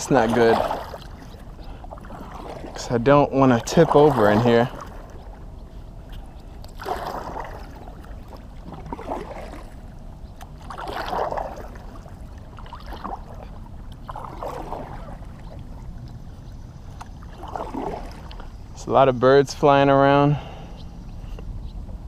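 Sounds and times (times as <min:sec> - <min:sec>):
kayak paddle splashing in water: 0:00.0 - 0:18.7.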